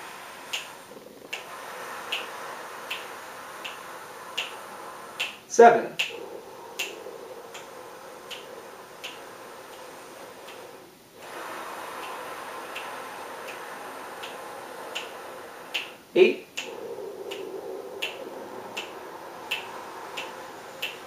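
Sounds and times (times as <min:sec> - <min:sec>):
inhale suction hiss: 0:00.0 - 0:21.0.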